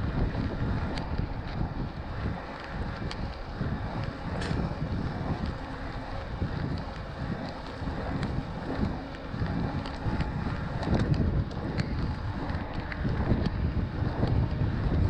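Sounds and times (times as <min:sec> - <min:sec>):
bike clicks and rattles: 0:00.0 - 0:15.0
tyres rumbling on rough trail: 0:00.0 - 0:15.0
wind buffeting microphone: 0:00.0 - 0:15.0.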